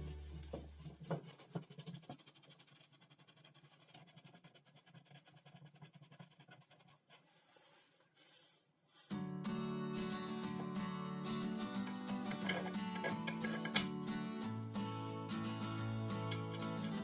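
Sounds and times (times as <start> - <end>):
faint scratching: 0.0 - 9.2, 10.0 - 17.0.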